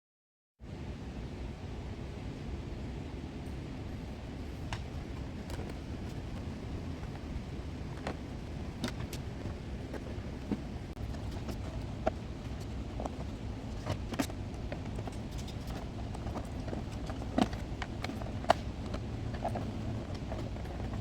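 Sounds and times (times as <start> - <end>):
steady low hum: 0.6 - 21.0.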